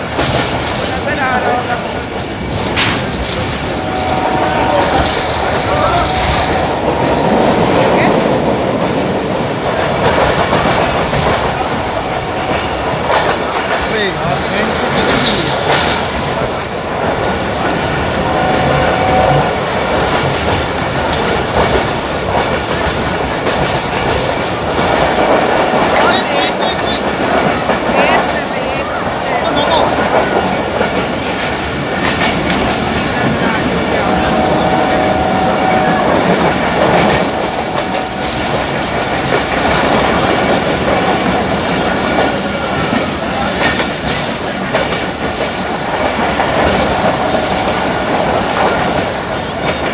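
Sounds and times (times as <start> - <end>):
train wheels rumbling and clattering: 0.0 - 49.9.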